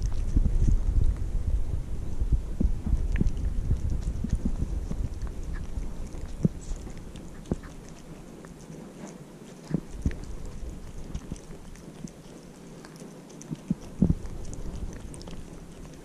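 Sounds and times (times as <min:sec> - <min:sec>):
kitten chewing wet food: 0:00.0 - 0:16.0.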